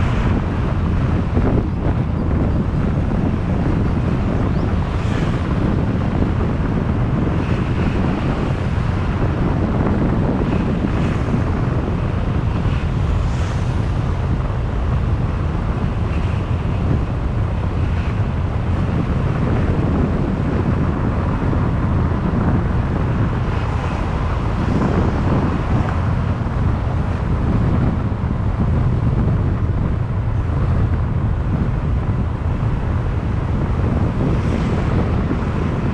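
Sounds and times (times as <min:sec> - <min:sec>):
road noise: 0:00.0 - 0:35.9
wind buffeting microphone: 0:00.0 - 0:35.9.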